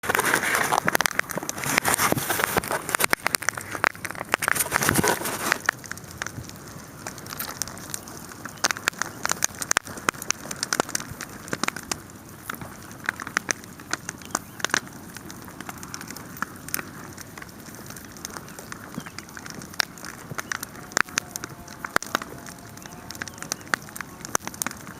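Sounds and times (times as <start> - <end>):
sharp pops of fire: 0.0 - 24.9
wood fire crackling: 0.0 - 24.9.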